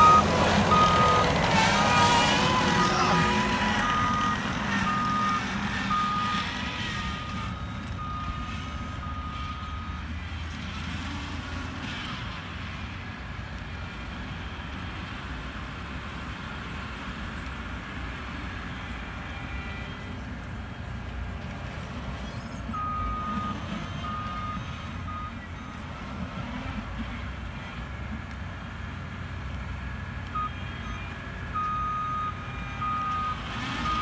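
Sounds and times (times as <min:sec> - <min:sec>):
skid-steer loader engine running: 0:00.0 - 0:34.0.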